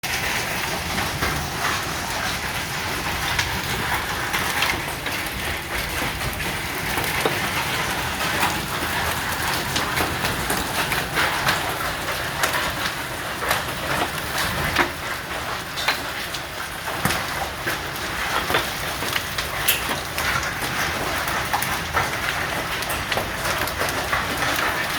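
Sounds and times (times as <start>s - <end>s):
hailstones striking hard surfaces: 0.0s - 24.9s
heavy rain pouring: 0.0s - 24.9s.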